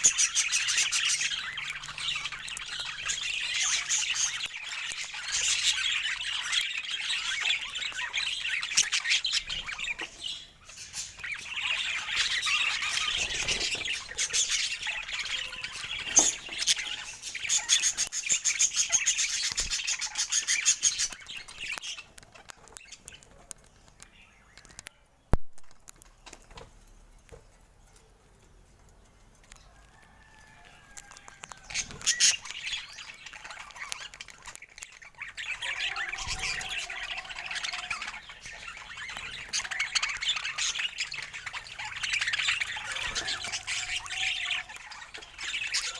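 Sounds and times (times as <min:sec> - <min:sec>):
budgerigars chirping and chattering: 0:00.0 - 0:25.1, 0:29.4 - 0:45.9.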